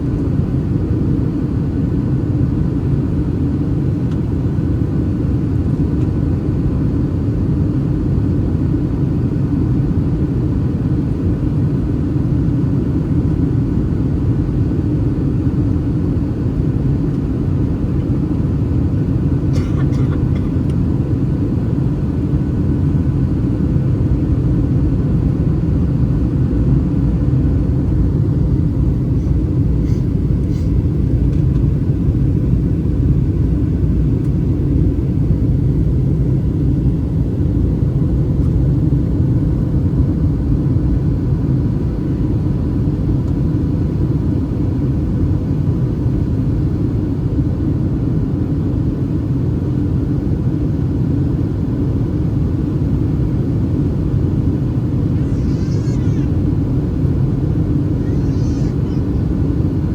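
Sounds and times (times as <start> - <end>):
airplane cabin engine rumble: 0.0 - 59.9
faint steady hum: 0.0 - 59.9.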